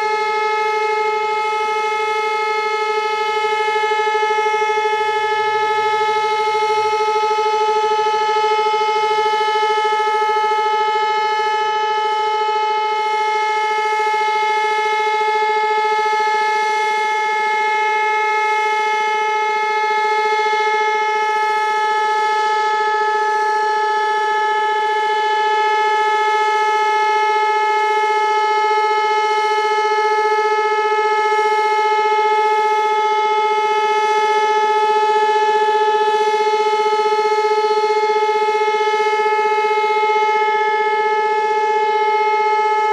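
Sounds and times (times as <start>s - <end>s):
electric motor siren steady tone: 0.0s - 42.9s.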